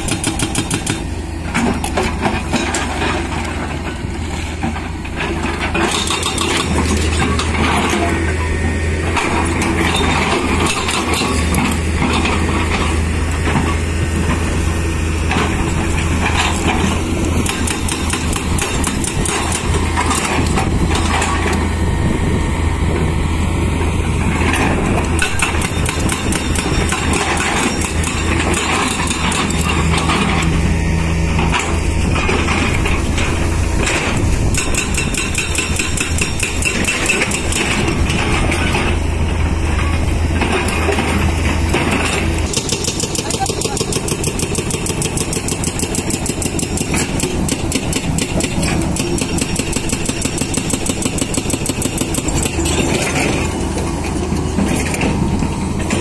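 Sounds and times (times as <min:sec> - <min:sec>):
hydraulic breaker hammering rock: 0:00.0 - 0:03.7, 0:04.7 - 0:08.4, 0:09.0 - 0:14.5, 0:15.1 - 0:21.7, 0:24.4 - 0:30.6, 0:31.3 - 0:56.0
diesel engine drone: 0:00.0 - 0:56.0.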